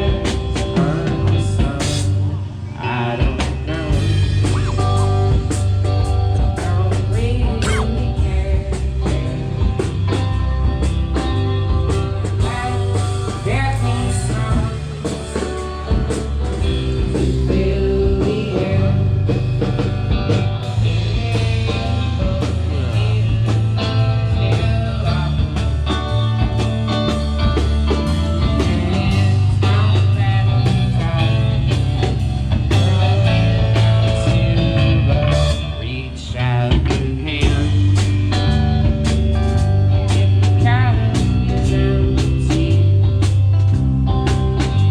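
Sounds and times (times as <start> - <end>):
person singing: 0.0 - 10.3, 11.9 - 16.1, 17.0 - 19.5, 20.6 - 27.0, 27.9 - 39.0, 39.8 - 43.5
bass guitar: 0.0 - 44.9
drum kit: 0.0 - 44.9
electric guitar: 0.0 - 44.9.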